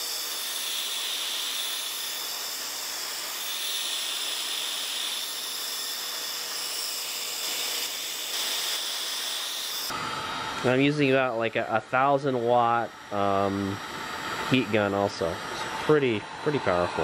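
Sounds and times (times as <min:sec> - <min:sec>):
heat gun blowing hot air: 0:00.0 - 0:11.4, 0:12.0 - 0:17.0.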